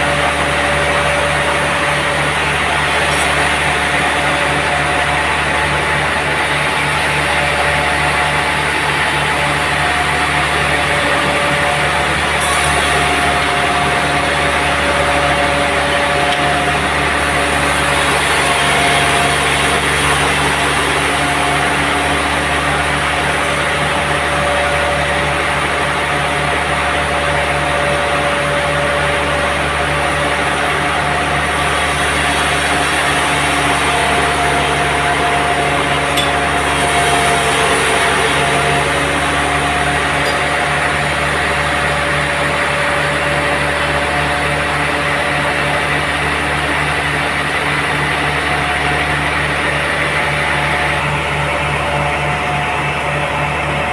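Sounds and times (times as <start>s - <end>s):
sawmill saw humming: 0.0s - 53.9s.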